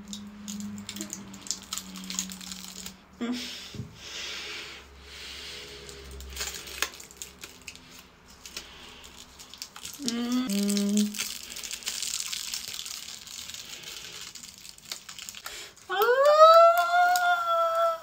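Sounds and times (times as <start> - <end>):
sticky crackling of peeling makeup: 0.0 - 3.0, 5.6 - 17.9.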